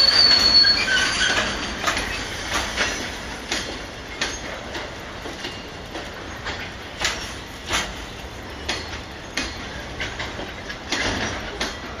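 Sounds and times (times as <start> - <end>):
low train rumble: 0.0 - 12.0
train wheels clacking over rail joints: 0.0 - 12.0.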